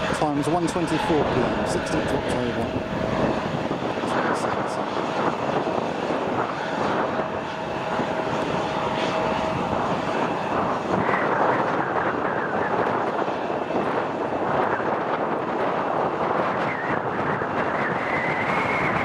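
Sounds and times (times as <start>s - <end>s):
gusty wind on microphone: 0.0s - 19.0s
jet engines running: 0.0s - 19.0s.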